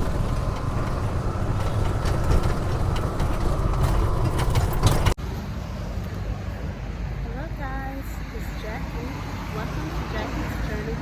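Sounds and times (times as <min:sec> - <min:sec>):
motor vehicle rumbling: 0:00.0 - 0:11.0
road noise: 0:00.0 - 0:11.0
traffic background: 0:00.0 - 0:11.0.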